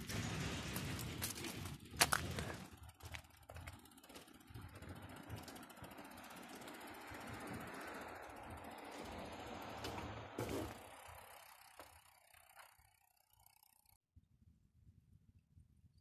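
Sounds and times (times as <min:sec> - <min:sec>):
rapid mechanical ticking: 0:00.0 - 0:14.0
outdoor noise: 0:00.0 - 0:16.0.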